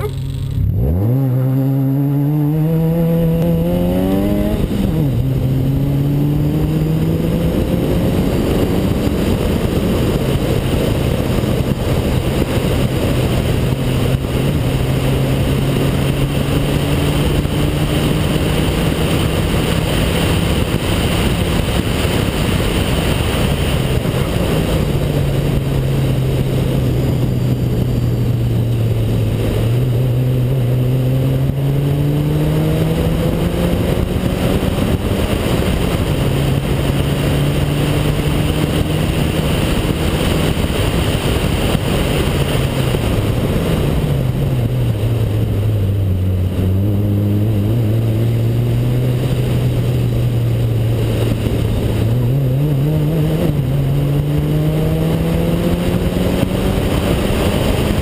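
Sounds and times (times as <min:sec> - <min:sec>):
car engine accelerating: 0:00.0 - 0:58.0
wind rushing over microphone: 0:00.0 - 0:58.0.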